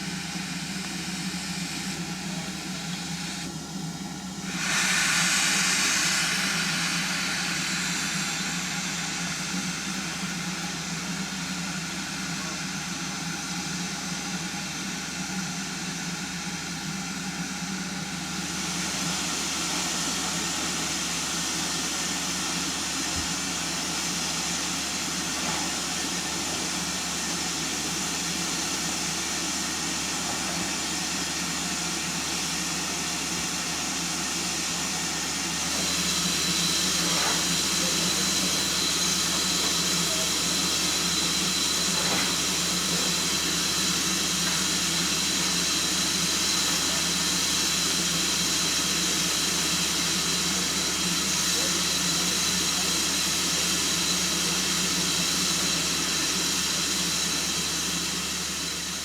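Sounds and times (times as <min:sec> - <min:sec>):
steam hissing: 0:00.0 - 0:59.0.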